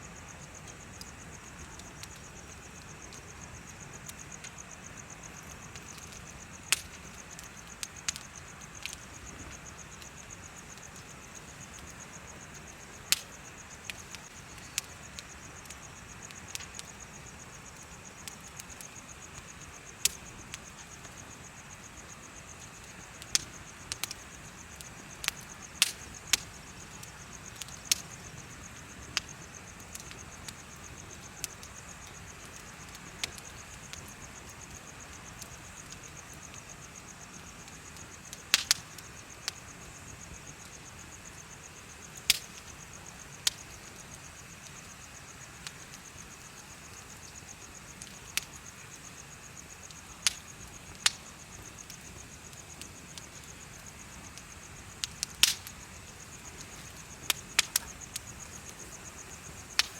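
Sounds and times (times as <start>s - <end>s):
insects trilling: 0.0s - 59.9s
wood bonfire crackling: 0.0s - 59.9s.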